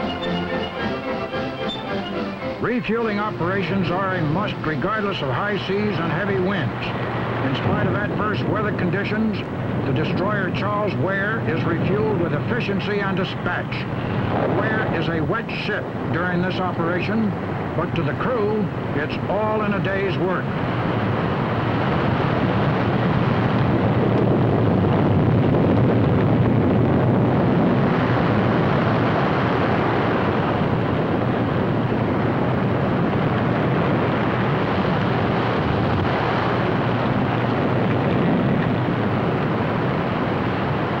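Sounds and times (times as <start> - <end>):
strong wind: 0.0 - 41.0
rough sea: 2.5 - 41.0.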